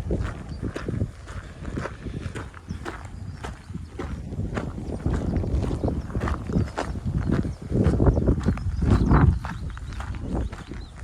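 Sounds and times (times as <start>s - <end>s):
footsteps on hard path: 0.0s - 11.0s
wind rumbling on microphone: 0.0s - 11.0s.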